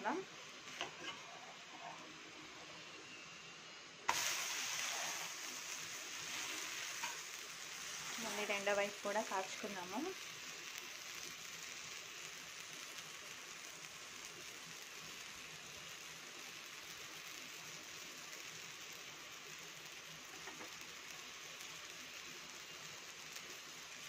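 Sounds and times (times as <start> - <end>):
flatbread sizzling in oil on griddle: 0.1 - 24.0.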